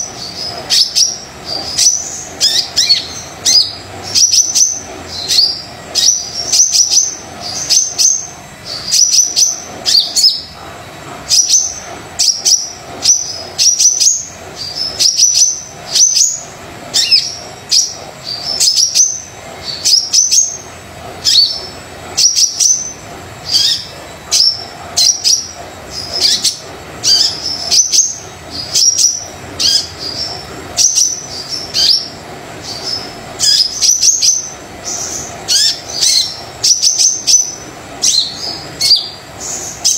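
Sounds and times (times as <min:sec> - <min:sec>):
bird chirping high and sharp: 0:00.0 - 0:10.6, 0:11.3 - 0:39.9.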